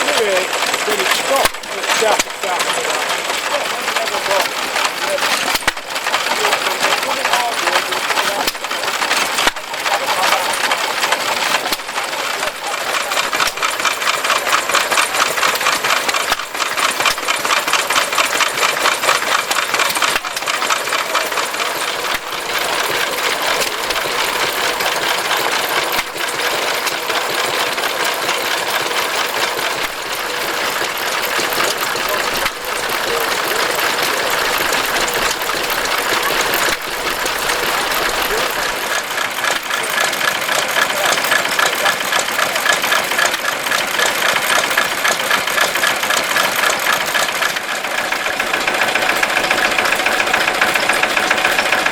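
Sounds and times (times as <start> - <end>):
engines knocking: 0.0 - 51.9.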